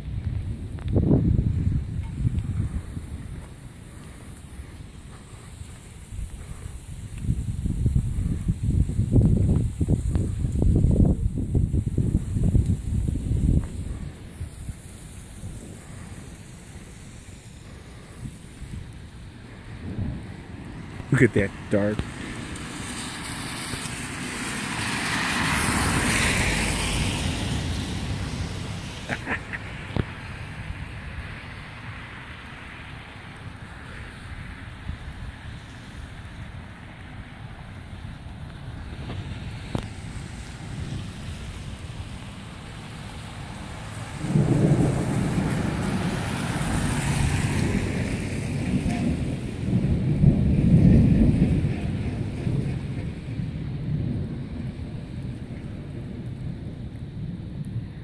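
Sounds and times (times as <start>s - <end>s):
car passing on wet road: 0.0s - 58.0s
thunder rumbling: 0.0s - 58.0s.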